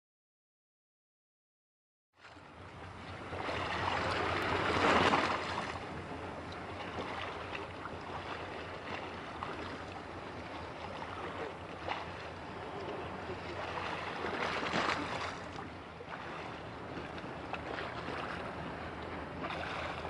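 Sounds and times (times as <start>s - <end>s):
sea water washing: 2.4s - 20.0s.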